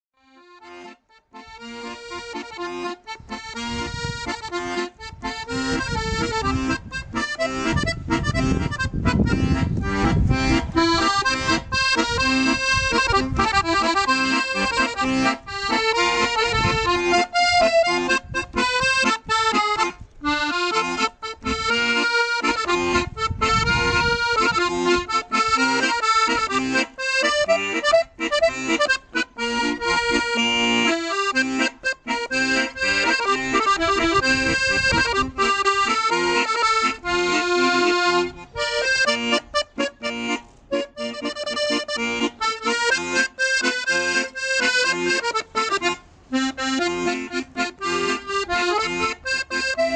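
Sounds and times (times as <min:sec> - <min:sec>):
piano accordion playing: 0:00.2 - 0:49.9.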